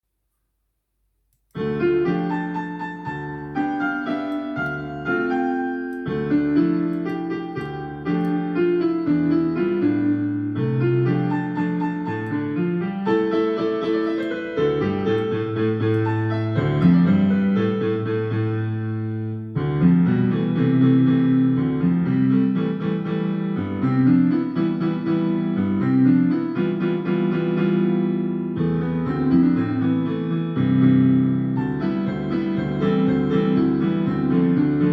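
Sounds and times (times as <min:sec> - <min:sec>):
piano music: 0:01.5 - 0:34.9.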